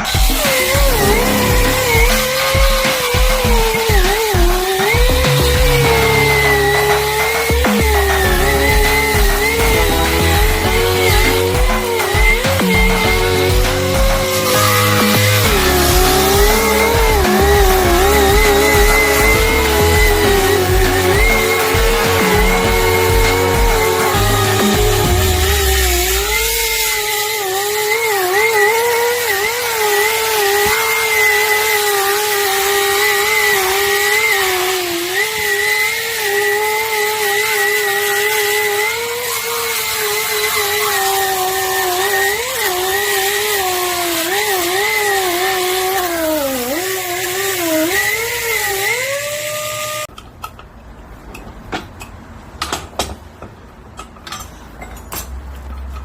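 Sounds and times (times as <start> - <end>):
pneumatic grinder whining: 0.0 - 50.6.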